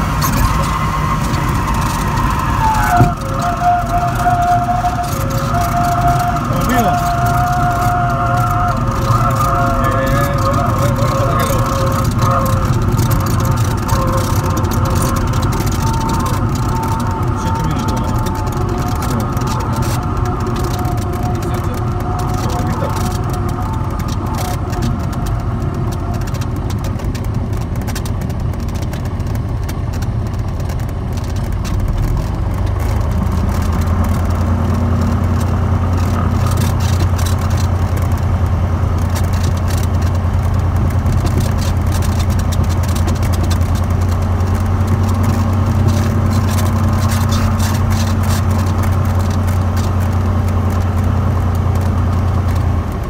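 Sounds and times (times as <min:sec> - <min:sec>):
propeller aircraft engine droning: 0:00.0 - 0:53.0.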